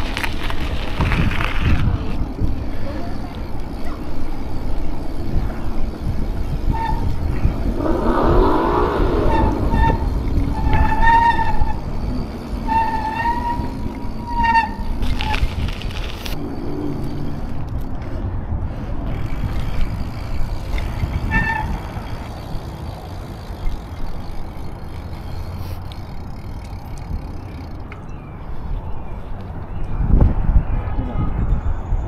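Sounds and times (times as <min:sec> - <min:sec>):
wind buffeting microphone: 0:00.0 - 0:25.2, 0:28.4 - 0:32.0.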